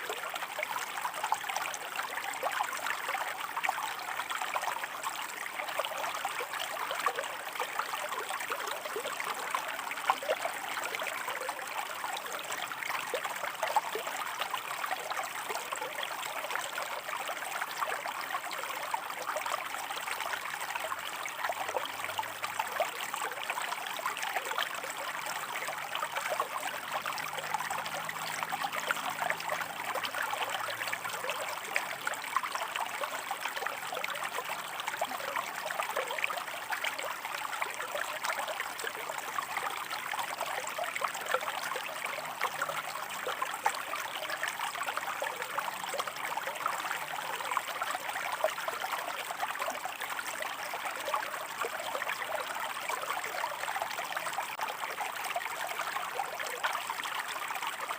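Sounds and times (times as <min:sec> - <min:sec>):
stream burbling over rocks: 0:00.0 - 0:57.9.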